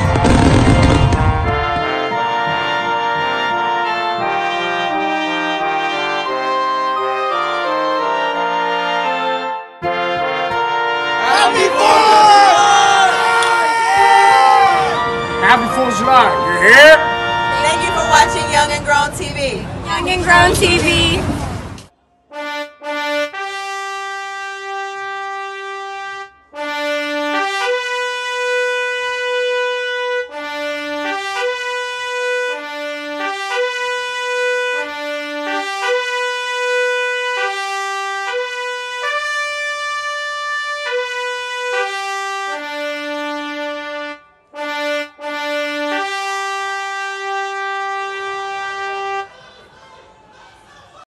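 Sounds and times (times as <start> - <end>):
solo trumpet melody: 0.0 - 20.7, 22.3 - 49.3.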